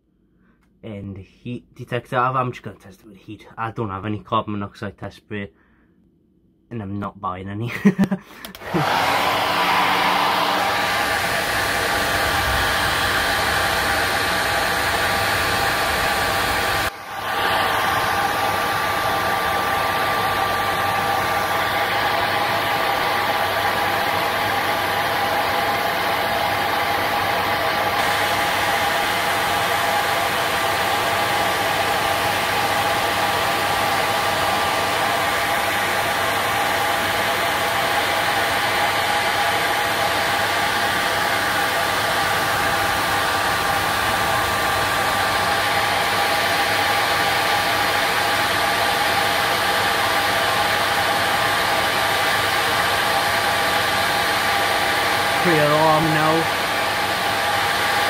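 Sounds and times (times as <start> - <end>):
hot-air blower running: 7.8 - 58.0.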